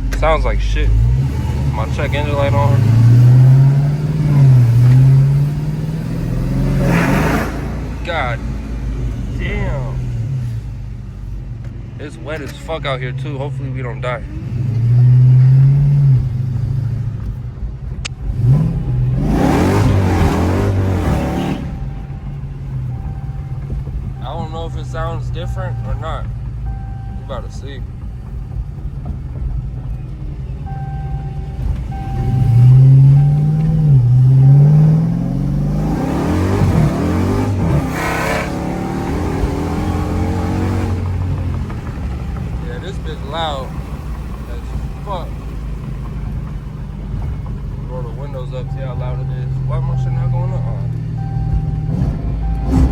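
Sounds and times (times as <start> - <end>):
loud car engine accelerating: 0.0 - 52.9.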